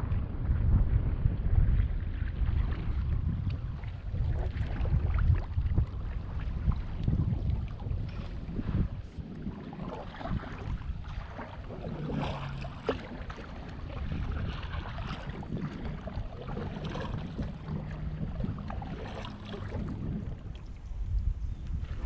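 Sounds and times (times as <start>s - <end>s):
paddles pulling through water: 0.0s - 22.0s
water slapping hull: 0.0s - 22.0s
wind buffeting microphone: 0.0s - 22.0s.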